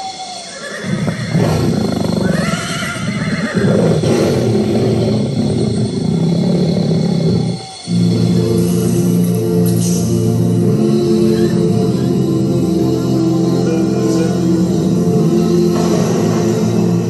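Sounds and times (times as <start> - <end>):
elephant calling: 0.0 - 9.0, 9.6 - 16.8.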